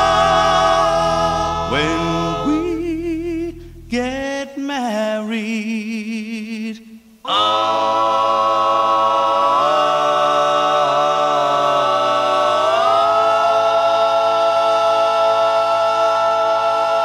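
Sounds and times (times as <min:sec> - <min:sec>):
voices singing chords in harmony: 0:00.0 - 0:04.3, 0:07.2 - 0:17.0
singing voice with vibrato: 0:00.0 - 0:17.0.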